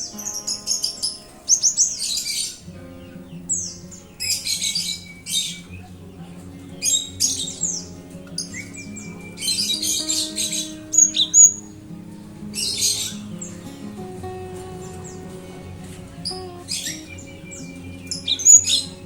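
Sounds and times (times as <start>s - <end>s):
bird chattering song: 0.0s - 19.0s
low music notes: 0.0s - 19.0s.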